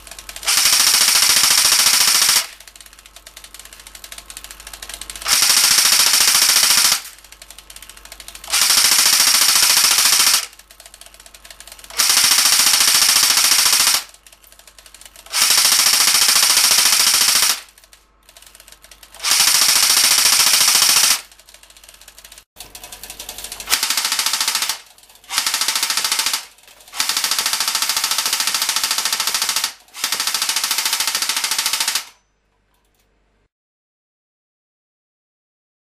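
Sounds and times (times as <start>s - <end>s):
airsoft gun firing full-auto bursts: 0.0s - 22.4s, 23.4s - 32.2s.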